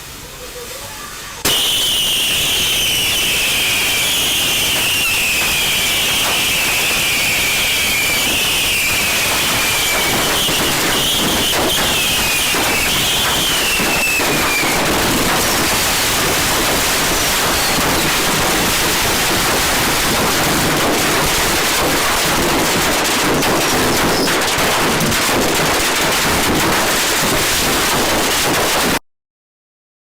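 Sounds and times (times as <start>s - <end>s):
firecrackers popping: 1.4s - 29.0s.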